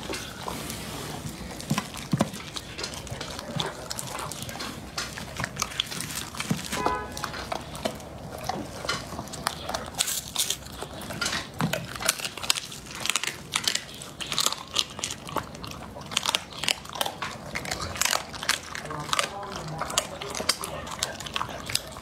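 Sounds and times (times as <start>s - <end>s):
dog chewing bone crunching: 0.0s - 22.0s.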